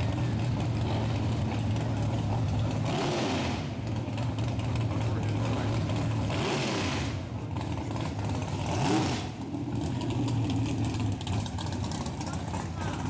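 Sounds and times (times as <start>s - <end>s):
racing car engine rolling past: 0.0s - 13.0s.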